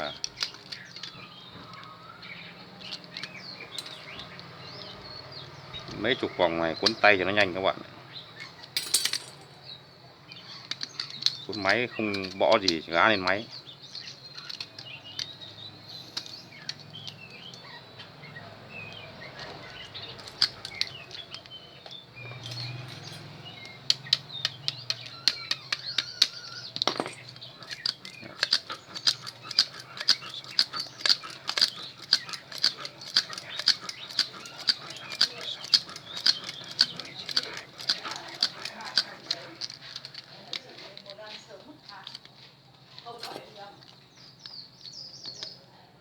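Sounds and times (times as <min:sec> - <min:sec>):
winding machine clicking: 0:00.0 - 0:07.7, 0:10.7 - 0:17.6, 0:18.3 - 0:41.2.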